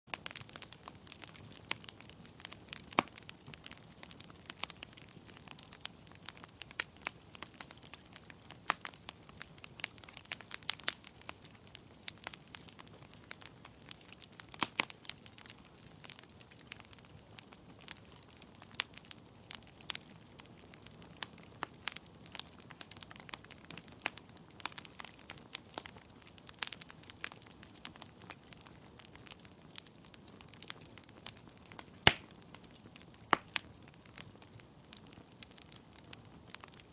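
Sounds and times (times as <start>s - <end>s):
faint fire hiss: 0.1s - 36.9s
wood fire crackling and popping: 0.1s - 36.9s.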